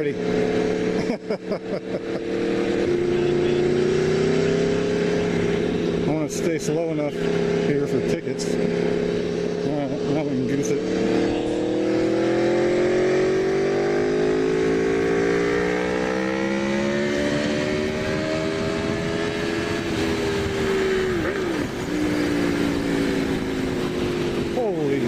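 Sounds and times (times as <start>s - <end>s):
motorcycle engine accelerating hard: 0.0s - 25.0s.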